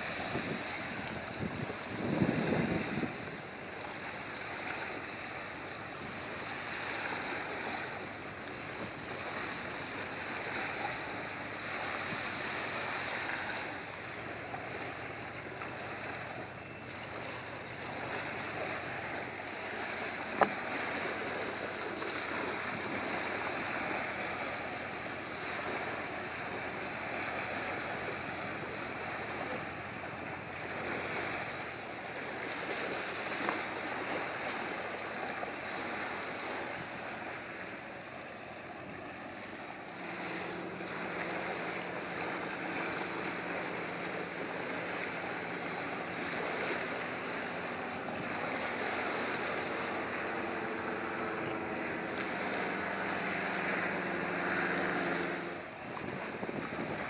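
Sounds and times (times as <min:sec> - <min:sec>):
waves on open water: 0:00.0 - 0:57.0
wind on microphone: 0:00.0 - 0:57.0.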